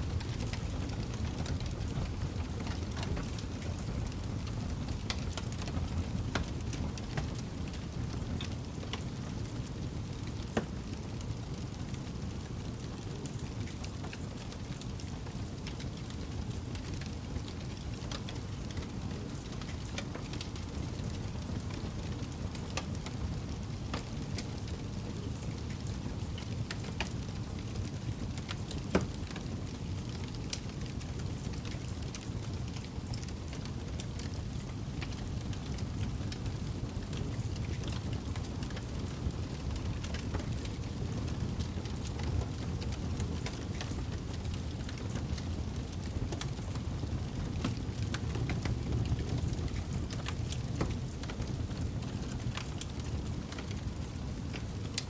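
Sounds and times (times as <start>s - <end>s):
campfire crackling and popping: 0.1s - 55.0s.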